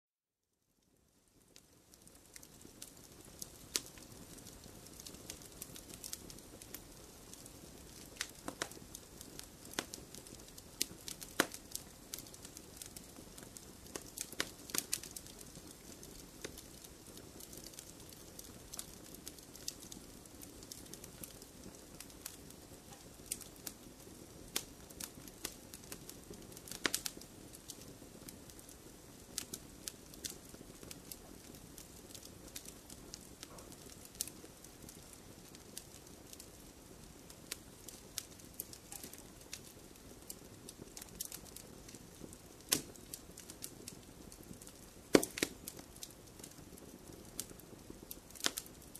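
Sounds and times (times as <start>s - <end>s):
wood fire crackling: 0.8s - 48.9s.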